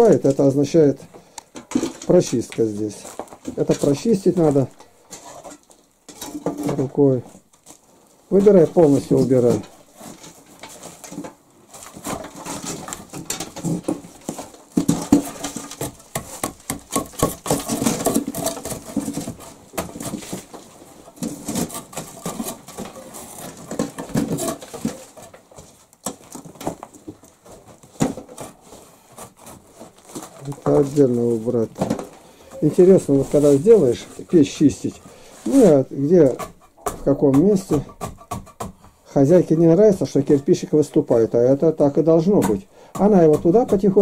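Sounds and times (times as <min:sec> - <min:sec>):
rubble scraping and clattering: 0:00.0 - 0:44.0.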